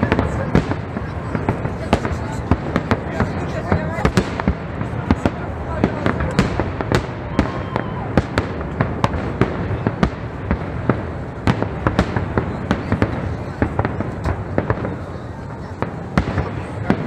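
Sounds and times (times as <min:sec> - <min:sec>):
fireworks crackling: 0:00.0 - 0:17.0
fireworks shells bursting with bangs: 0:00.0 - 0:17.0.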